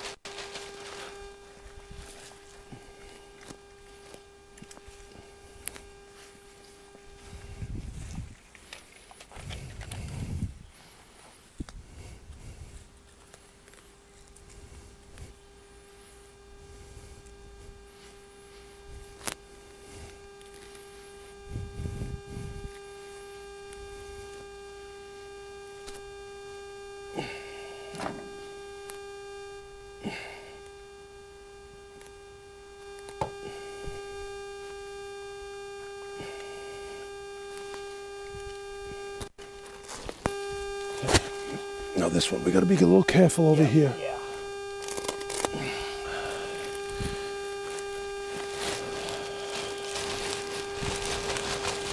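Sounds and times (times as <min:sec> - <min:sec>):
steady hum: 0:00.0 - 0:51.9.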